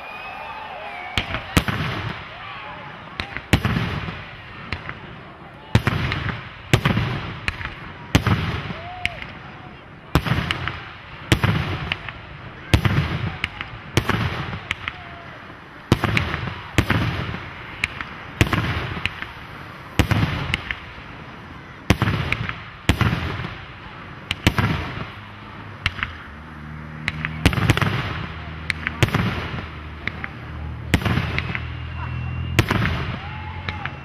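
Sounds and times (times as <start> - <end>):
fireworks booming: 0.6 - 34.0.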